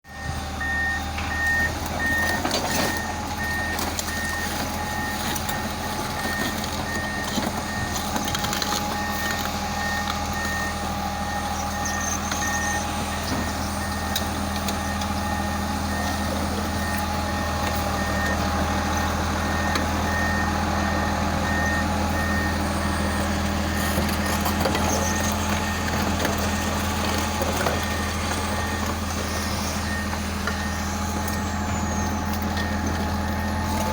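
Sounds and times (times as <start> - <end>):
bulldozer diesel engine running: 0.0 - 33.9
reversing alarm beeping: 0.1 - 33.9.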